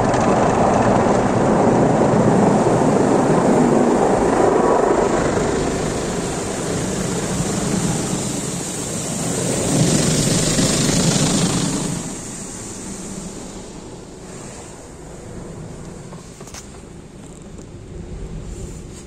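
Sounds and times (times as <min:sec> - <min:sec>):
car wash brushes and water spray: 0:00.0 - 0:19.0.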